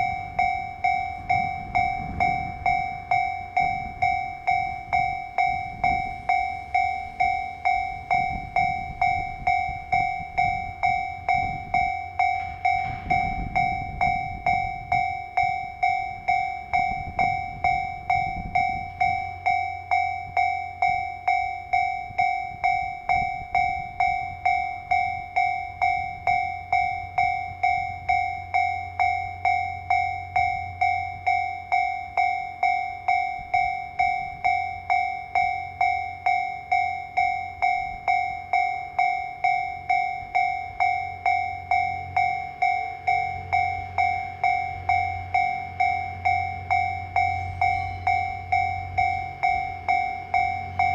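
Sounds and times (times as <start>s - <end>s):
level-crossing bell two-tone ding: 0.0s - 50.9s
low rumble of moving train: 0.0s - 50.9s.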